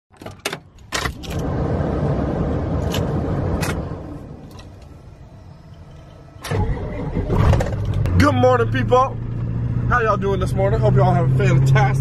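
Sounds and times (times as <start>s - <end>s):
low rumble in cab: 0.3s - 12.0s.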